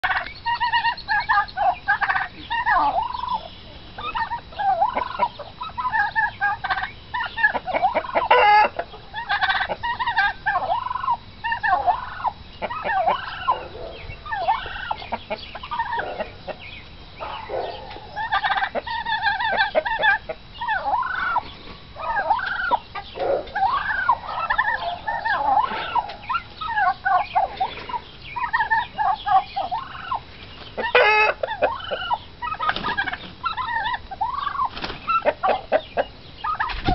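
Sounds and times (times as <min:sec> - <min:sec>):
turkeys chirping and clucking: 0:00.0 - 0:36.9.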